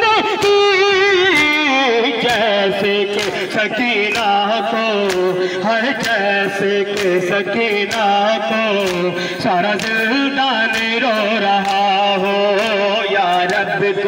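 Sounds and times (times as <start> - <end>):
drone of voices: 0.0 - 14.0
man singing a lament: 0.0 - 14.0.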